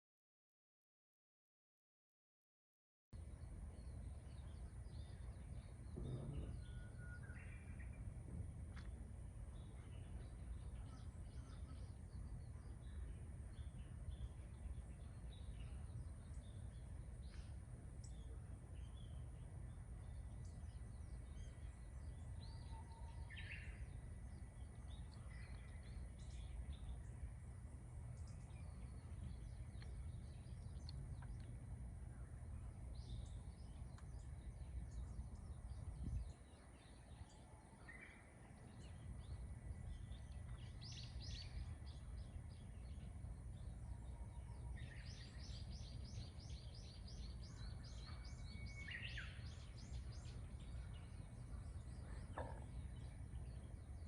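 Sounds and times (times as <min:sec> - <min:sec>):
birds chirping: 0:03.2 - 0:54.0
steady low rumble: 0:03.2 - 0:54.0.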